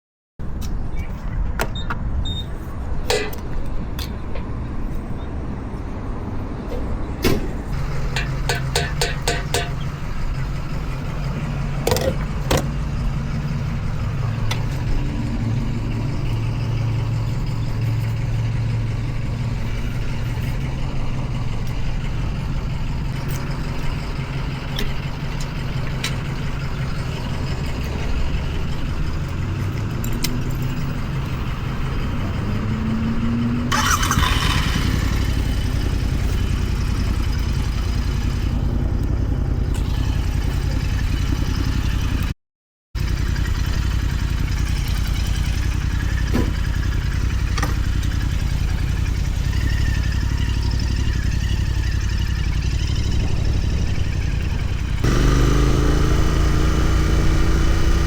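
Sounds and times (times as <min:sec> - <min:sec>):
motorcycle engine droning: 0:07.2 - 0:42.3, 0:43.0 - 0:58.0.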